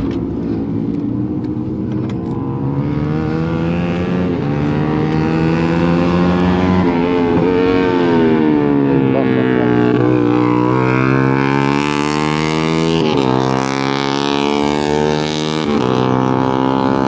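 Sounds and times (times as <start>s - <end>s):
motorcycle engine while riding: 0.0s - 17.0s.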